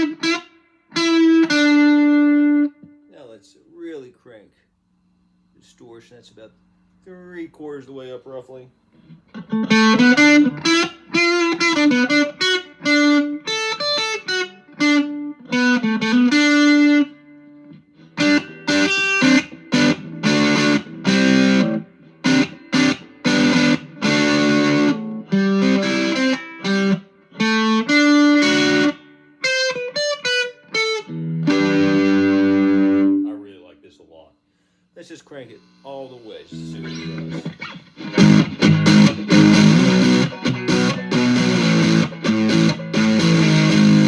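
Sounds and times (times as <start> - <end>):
distorted electric guitar riffs: 0.0 - 3.1, 9.0 - 33.4, 35.6 - 44.0.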